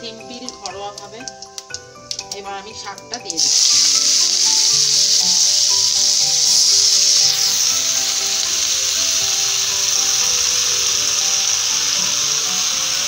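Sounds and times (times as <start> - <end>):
background music: 0.0 - 13.0
spinach sizzling in hot oil: 0.1 - 13.0.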